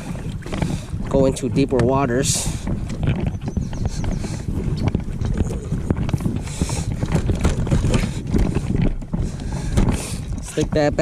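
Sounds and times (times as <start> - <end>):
kayak knocks and clunks: 0.0 - 11.0
wind rumbling on microphone: 0.0 - 11.0.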